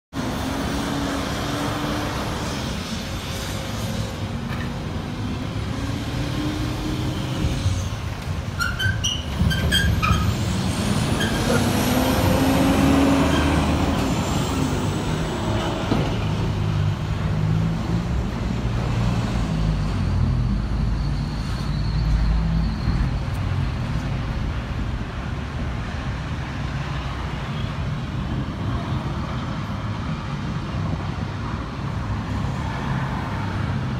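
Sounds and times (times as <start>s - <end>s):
vehicle engines and traffic: 0.1s - 33.9s.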